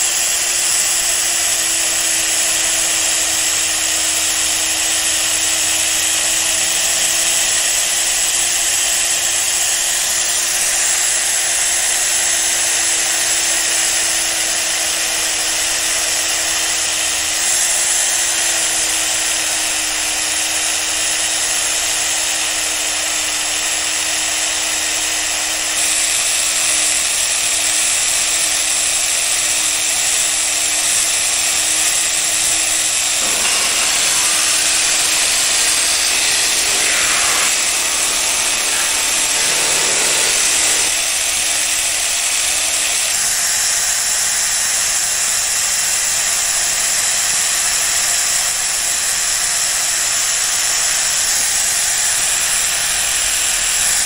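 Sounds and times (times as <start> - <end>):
power tool grinding steel: 0.0 - 54.0.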